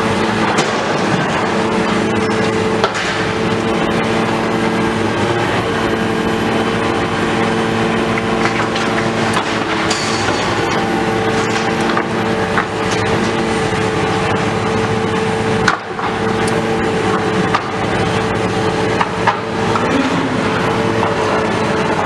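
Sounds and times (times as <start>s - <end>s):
demolition machinery engine hum: 0.0s - 22.0s.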